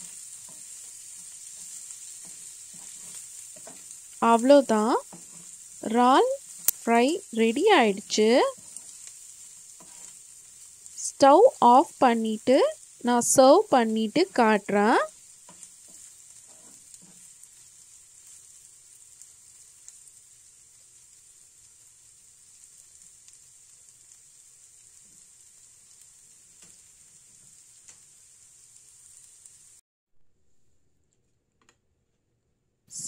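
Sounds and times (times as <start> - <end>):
food sizzling in a frying pan: 0.0 - 29.8.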